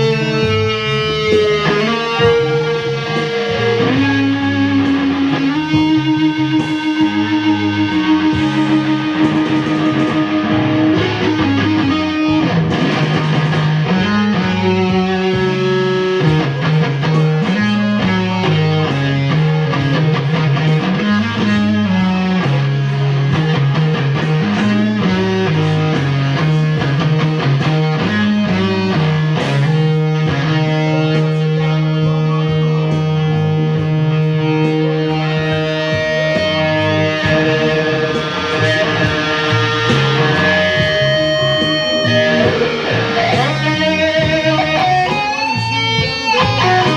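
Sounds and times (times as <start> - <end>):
electric guitar music: 0.0 - 46.9.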